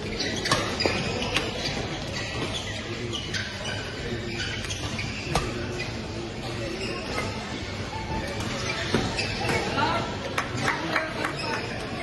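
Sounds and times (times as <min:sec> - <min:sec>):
background play on other courts: 0:00.0 - 0:12.0
court shoes squeaking: 0:00.0 - 0:12.0.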